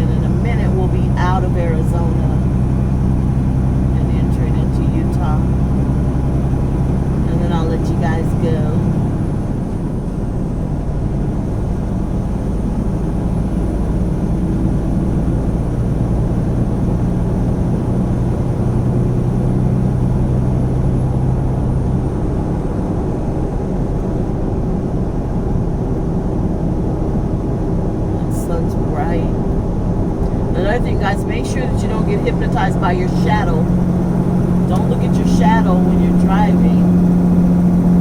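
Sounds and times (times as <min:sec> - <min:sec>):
road noise: 0:00.0 - 0:38.0
truck diesel engine droning: 0:00.0 - 0:38.0.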